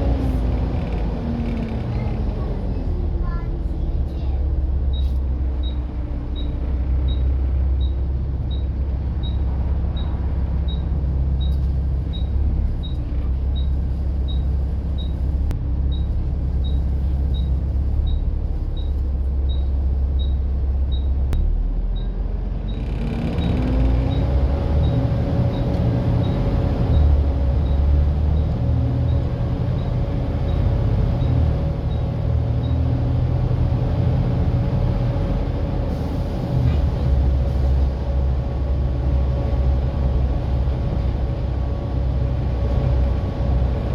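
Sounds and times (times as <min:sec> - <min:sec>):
bus engine drone: 0:00.0 - 0:43.9.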